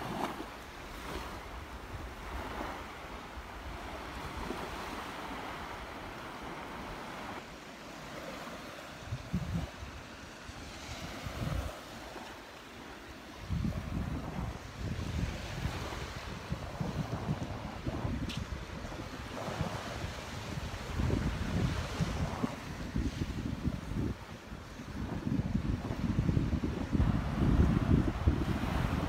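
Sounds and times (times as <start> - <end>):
surf breaking on beach: 0.0 - 29.0
wind buffeting microphone: 0.0 - 29.0.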